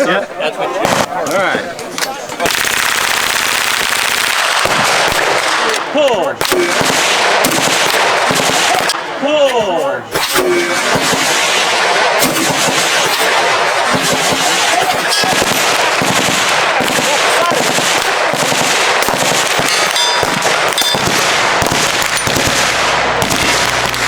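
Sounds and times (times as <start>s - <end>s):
rapid gunfire: 2.4s - 9.1s, 10.1s - 24.0s.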